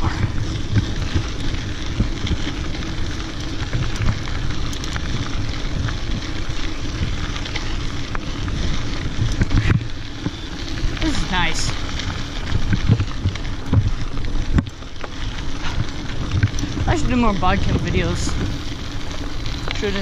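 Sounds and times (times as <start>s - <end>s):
tyres crunching on gravel: 0.0s - 20.0s
wind buffeting microphone: 0.0s - 20.0s.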